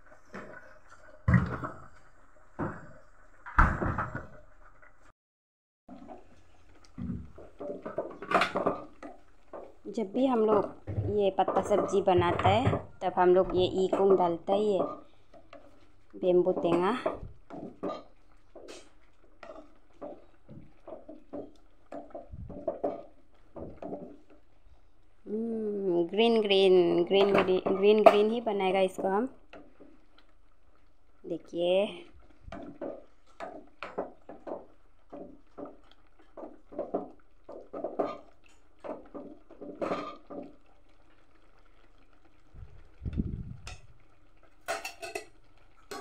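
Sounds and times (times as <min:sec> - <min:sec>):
wooden spatula stirring in metal pot: 0:00.0 - 0:05.1, 0:05.9 - 0:46.0.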